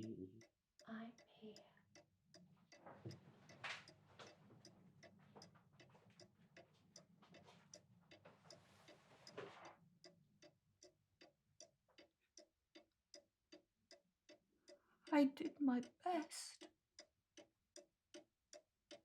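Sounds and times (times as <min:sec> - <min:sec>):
faint steady ticking: 0:00.0 - 0:19.0.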